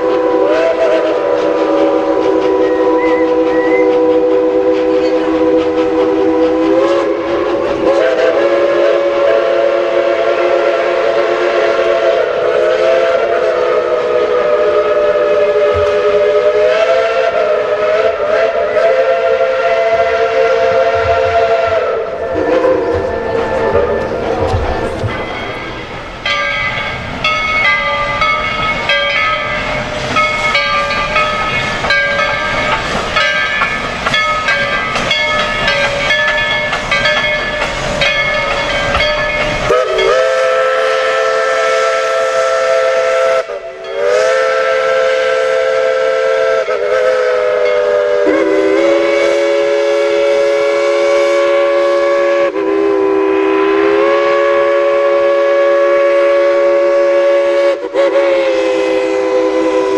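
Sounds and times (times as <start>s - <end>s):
chime steam whistle: 0.0s - 59.9s
steam locomotive hissing and clattering: 0.0s - 59.9s.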